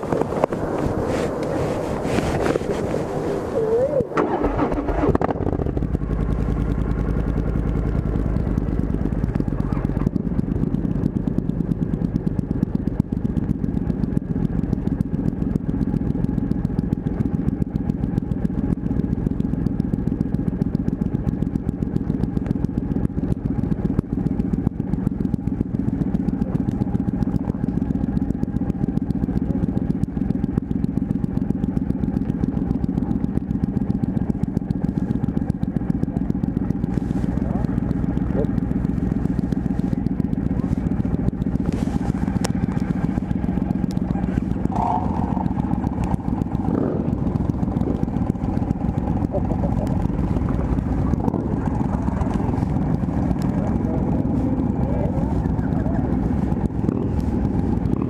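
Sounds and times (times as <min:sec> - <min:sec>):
motorcycle engine starting and idling: 0:00.0 - 0:58.0.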